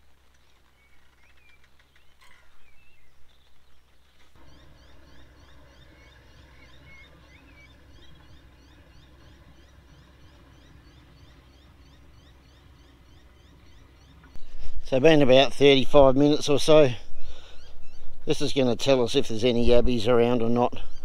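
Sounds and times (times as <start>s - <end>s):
birds whistling: 0.5s - 21.0s
high rising bird chirps: 0.8s - 18.6s.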